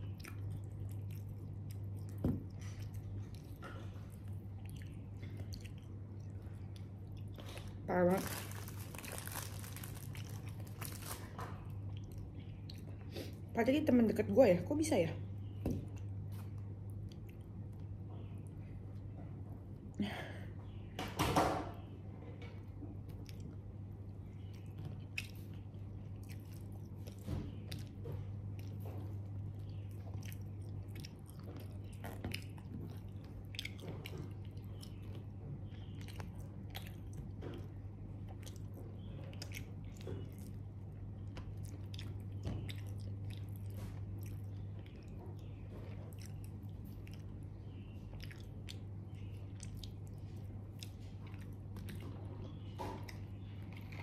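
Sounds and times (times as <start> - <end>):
crunchy chewing: 0.0 - 13.4, 22.4 - 54.0
steady low hum: 0.0 - 54.0.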